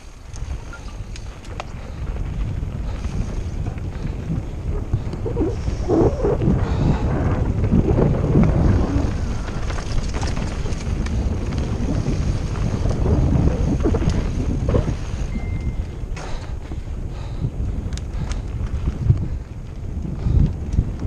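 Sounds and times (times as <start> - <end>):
mountain bike rumble: 0.0 - 21.0
wind buffeting microphone: 0.0 - 21.0.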